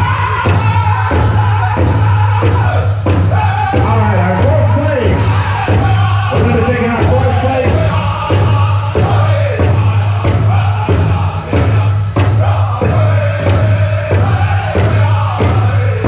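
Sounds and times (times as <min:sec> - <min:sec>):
group singing in unison: 0:00.0 - 0:16.0
large drum beating: 0:00.0 - 0:16.0.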